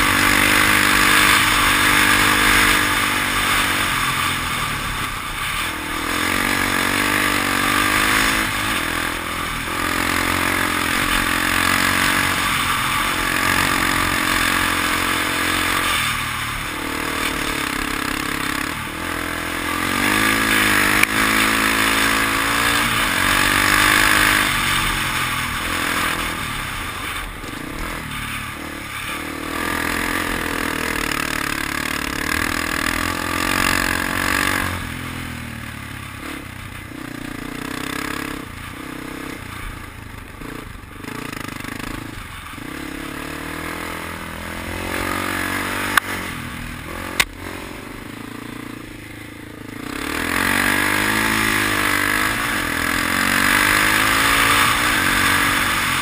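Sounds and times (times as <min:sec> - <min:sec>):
dirt bike engine revving: 0:00.0 - 0:56.0
wind and tyre noise: 0:00.0 - 0:56.0.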